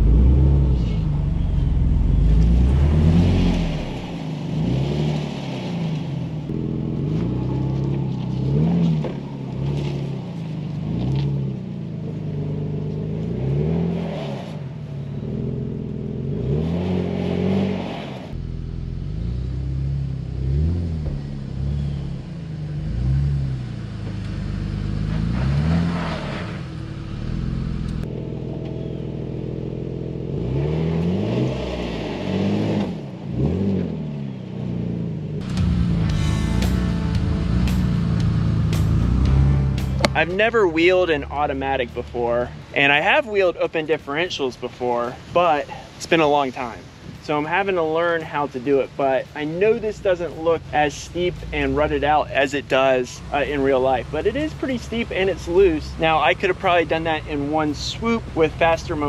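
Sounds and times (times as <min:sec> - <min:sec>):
car engine revving: 0:00.0 - 0:43.2, 0:46.6 - 0:59.0.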